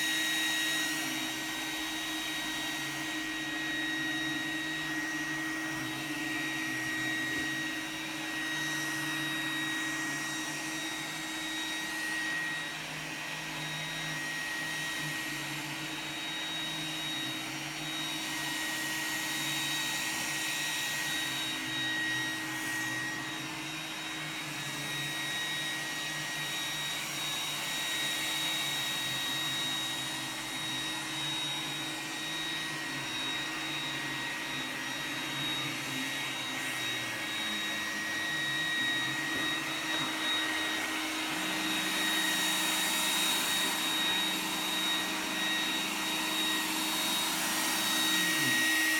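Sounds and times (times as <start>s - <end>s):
robot vacuum motor hum: 0.0s - 48.9s.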